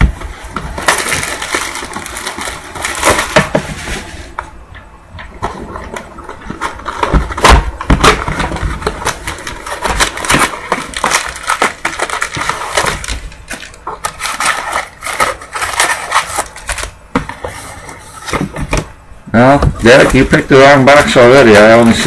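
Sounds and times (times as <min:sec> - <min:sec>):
foil packs crinkling and rustling: 0:00.0 - 0:04.5, 0:05.4 - 0:22.0.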